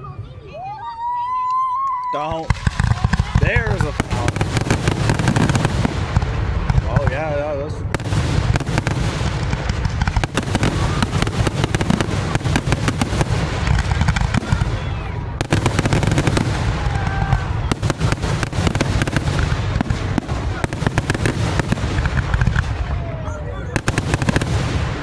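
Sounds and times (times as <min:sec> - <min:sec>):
fireworks bangs and crackles: 0:00.0 - 0:25.0
heavy low rumble: 0:02.4 - 0:25.0.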